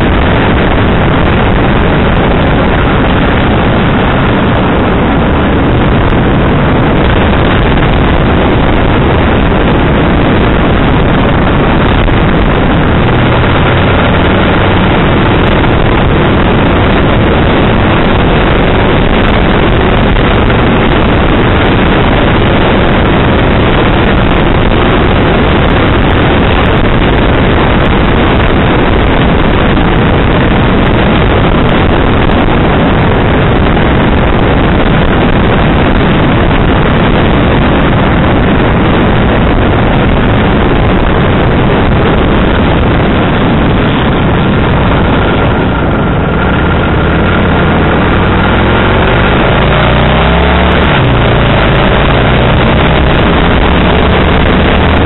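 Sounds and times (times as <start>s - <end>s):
motorcycle engine running: 0.0s - 55.0s
wind rushing on microphone: 0.0s - 55.0s.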